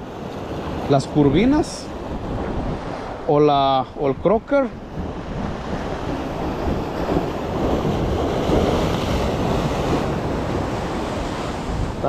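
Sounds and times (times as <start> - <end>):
ocean waves washing: 0.0 - 12.0
wind rumble on microphone: 0.0 - 12.0.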